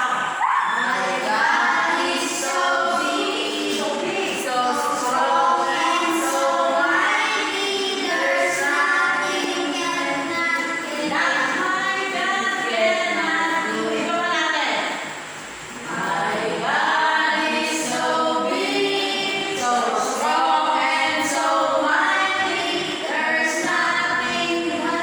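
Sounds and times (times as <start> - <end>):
several voices singing: 0.0 - 14.8, 15.7 - 25.0.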